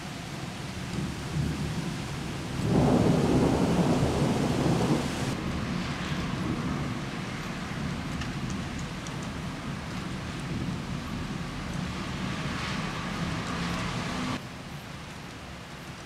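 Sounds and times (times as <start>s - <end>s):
steady rain: 0.0s - 16.0s
thunder rumbling: 0.9s - 14.4s.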